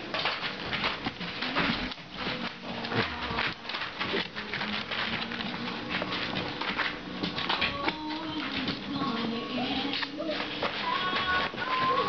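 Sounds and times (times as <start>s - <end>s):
puppies scrabbling on plastic tarp: 0.0s - 12.0s.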